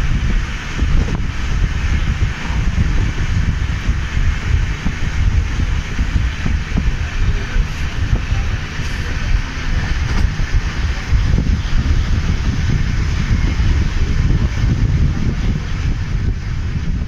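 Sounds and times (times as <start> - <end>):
train coaches rumbling on track: 0.0 - 17.0
wind buffeting microphone: 0.0 - 17.0.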